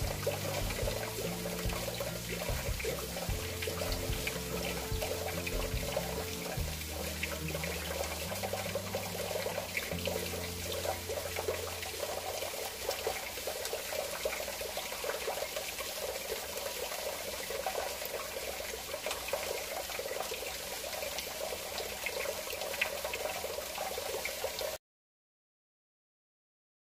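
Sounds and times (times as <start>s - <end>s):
tap water running into metal sink: 0.0s - 24.8s.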